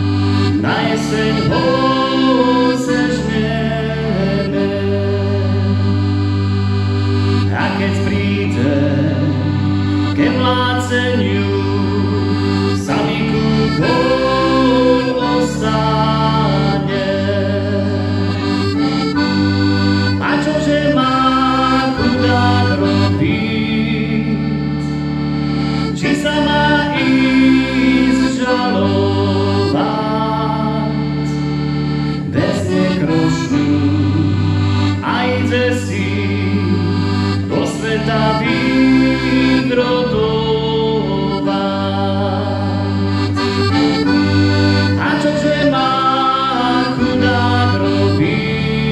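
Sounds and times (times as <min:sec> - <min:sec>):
accordion playing folk tune: 0:00.0 - 0:48.9.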